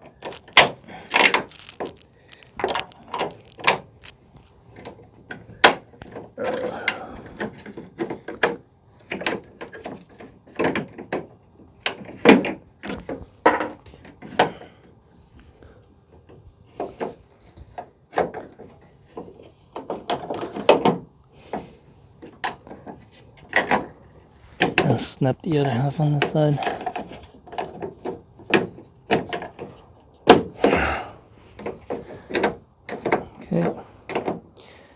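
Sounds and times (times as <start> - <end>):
strut knocking and rattling: 0.0 - 14.7, 16.1 - 34.5.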